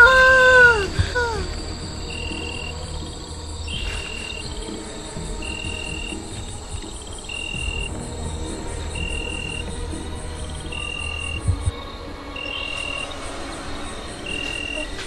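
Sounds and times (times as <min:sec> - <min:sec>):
insects chirping in pulsing trill: 0:00.0 - 0:15.0.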